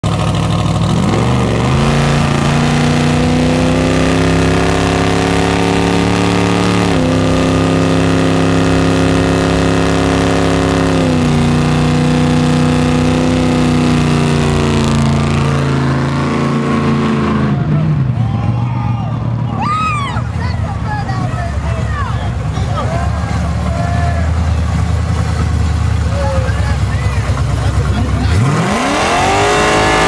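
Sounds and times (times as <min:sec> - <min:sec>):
car engine revving: 0:00.0 - 0:18.6, 0:19.2 - 0:30.0.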